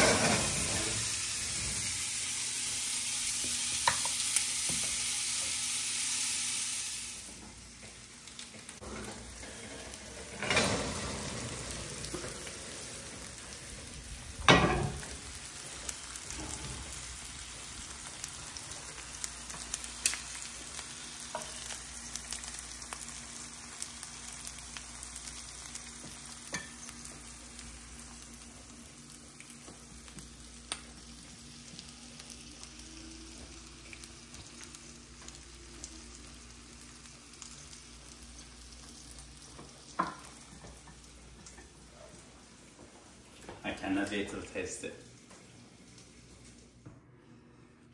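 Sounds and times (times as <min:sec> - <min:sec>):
meat sizzling in grill pan: 0:00.0 - 0:43.4.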